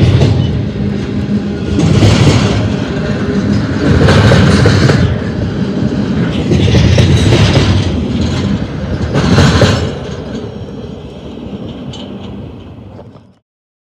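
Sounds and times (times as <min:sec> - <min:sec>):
train wheels clacking over rail joints: 0:00.0 - 0:13.4.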